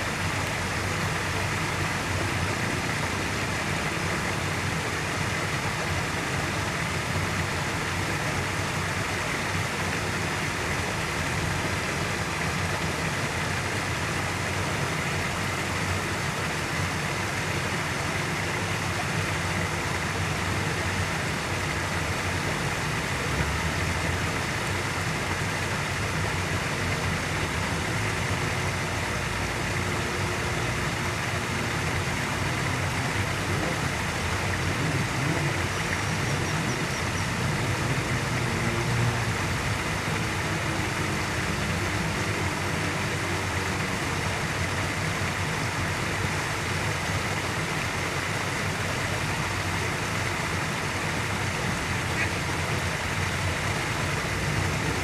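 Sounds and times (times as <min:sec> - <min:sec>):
distant road traffic: 0:00.0 - 0:55.0.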